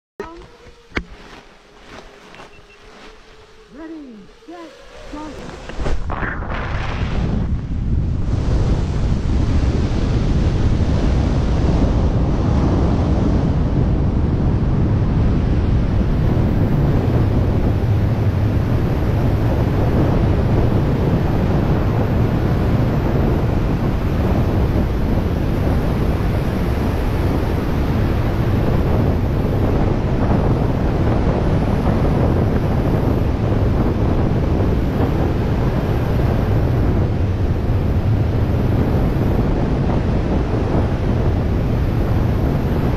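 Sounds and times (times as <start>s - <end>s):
wind rushing over microphone: 0.2s - 42.9s.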